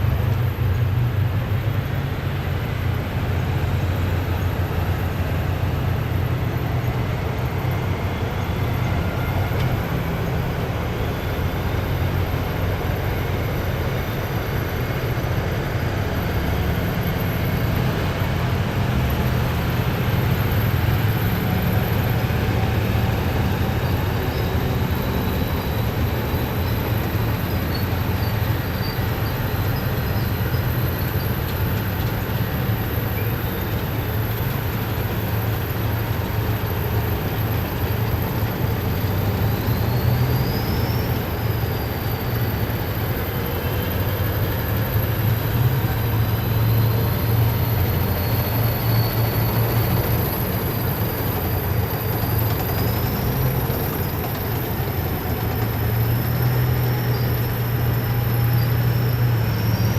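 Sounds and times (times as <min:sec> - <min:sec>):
faint high whine: 0:00.0 - 0:59.9
heavy vehicles driving past: 0:00.0 - 0:59.9.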